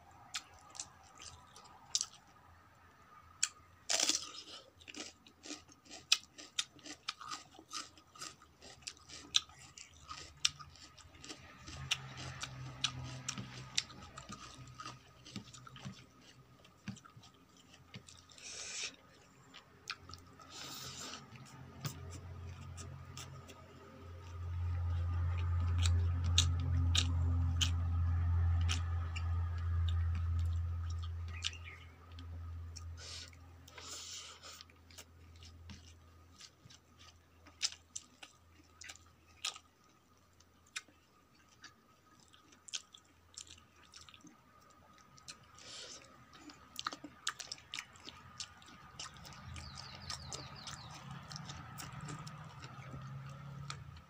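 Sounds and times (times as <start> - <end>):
chewing with crunches: 0.2 - 2.4, 3.4 - 54.0.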